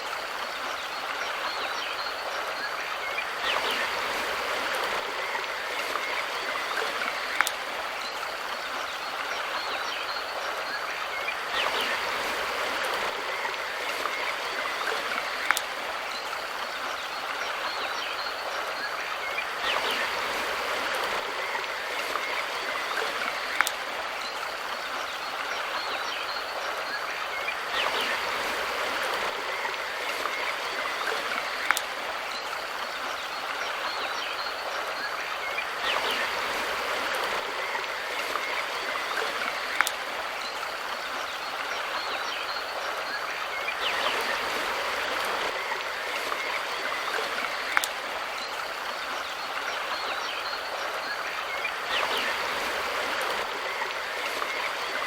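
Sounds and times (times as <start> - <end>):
river stream flowing: 0.0 - 55.0.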